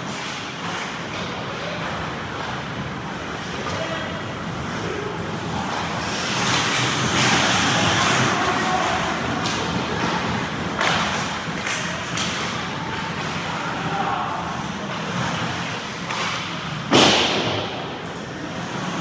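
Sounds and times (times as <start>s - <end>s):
sticks and puck clacking: 0.0s - 19.0s
skate blades scraping ice: 1.8s - 16.8s, 18.5s - 19.0s.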